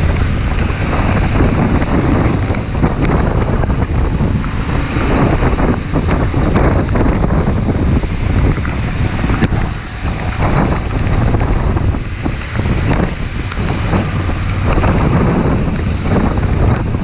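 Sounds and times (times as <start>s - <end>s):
motorcycle running noise: 0.0s - 17.0s
wind buffeting microphone: 0.0s - 17.0s.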